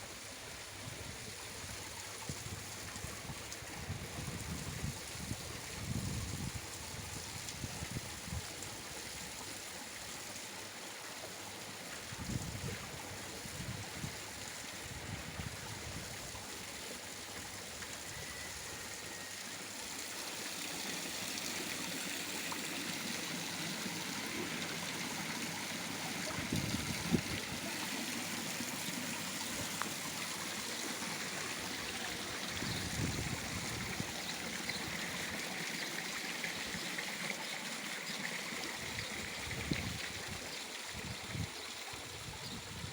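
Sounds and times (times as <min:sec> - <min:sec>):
waterfall running over rocks: 0:00.0 - 0:42.9
water splashing into pond: 0:01.4 - 0:42.9.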